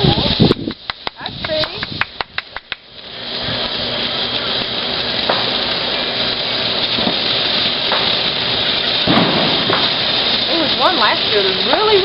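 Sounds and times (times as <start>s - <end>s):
firework crackling sizzle: 0.0s - 12.0s
firework pops: 0.0s - 12.0s.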